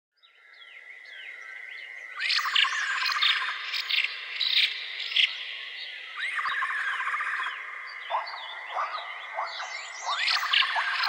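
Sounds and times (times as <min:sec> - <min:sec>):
chirping calls and trills: 0:00.2 - 0:11.0.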